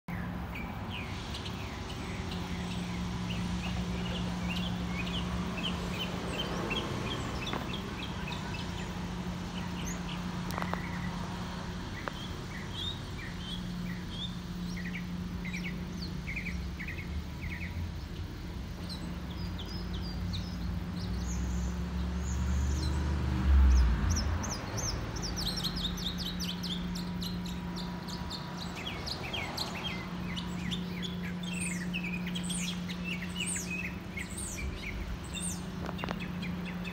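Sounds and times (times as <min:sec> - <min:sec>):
steady low hum: 0:00.1 - 0:22.4, 0:24.1 - 0:36.9
small birds chirping: 0:00.1 - 0:36.9.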